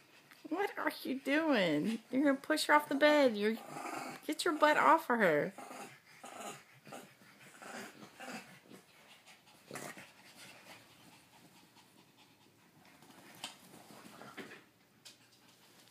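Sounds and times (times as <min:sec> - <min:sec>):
dogs panting: 0:00.0 - 0:02.3, 0:04.4 - 0:15.9.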